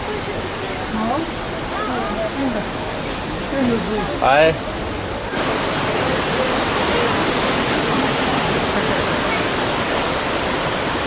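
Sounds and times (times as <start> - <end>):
faint voices: 0.0 - 10.7
rush of falling water: 0.0 - 11.0.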